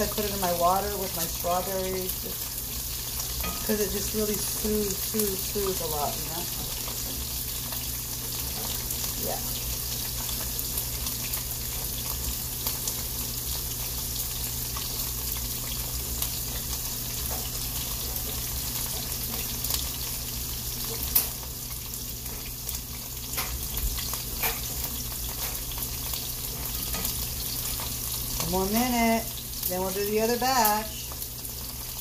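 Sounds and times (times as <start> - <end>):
meat sizzling in a skillet: 0.0 - 32.0.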